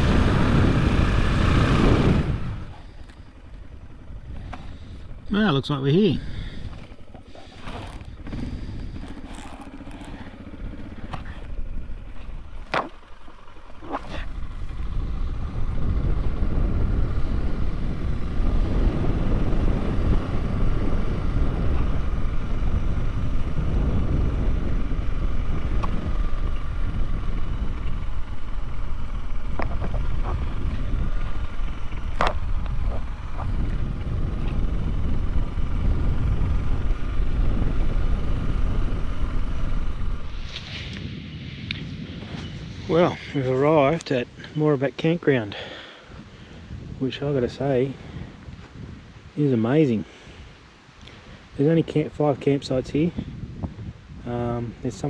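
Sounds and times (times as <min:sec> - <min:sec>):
motorcycle engine rumble: 0:00.0 - 0:49.4.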